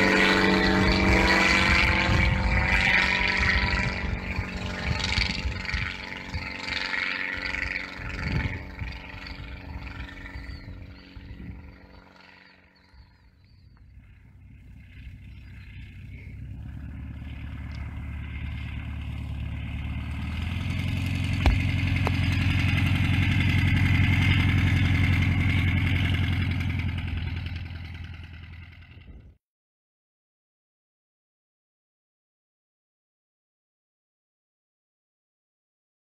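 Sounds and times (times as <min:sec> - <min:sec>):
propeller plane engine drone: 0:00.0 - 0:29.4.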